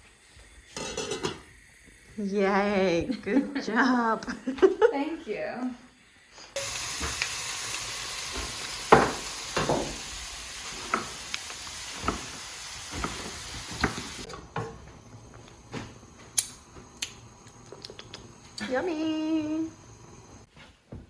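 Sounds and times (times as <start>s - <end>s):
food sizzling in a pan: 0.0s - 20.5s.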